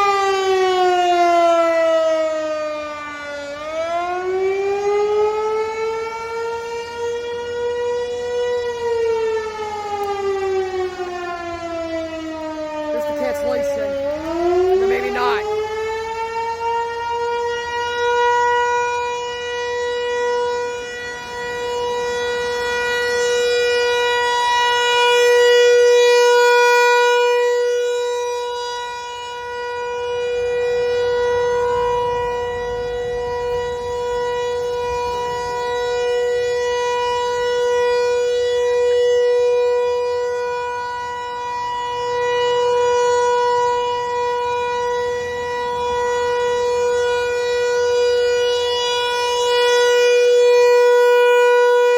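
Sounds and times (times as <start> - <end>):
rotating warning siren steady tone: 0.0 - 51.9.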